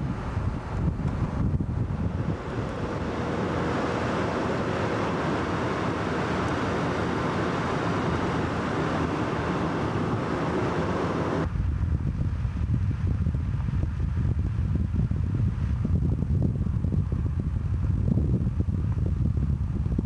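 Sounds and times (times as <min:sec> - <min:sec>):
car road and wind noise: 0:00.0 - 0:20.0
wind buffeting microphone: 0:00.0 - 0:20.0.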